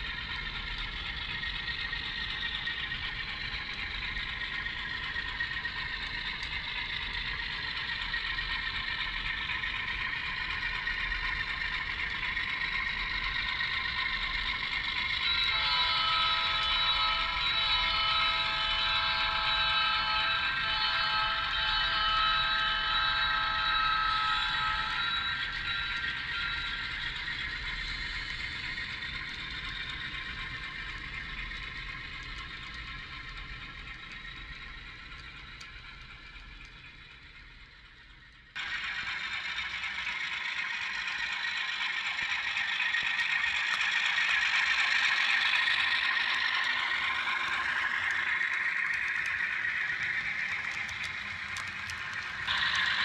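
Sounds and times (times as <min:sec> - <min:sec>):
model train cars rattling on rails: 0:00.0 - 0:53.0.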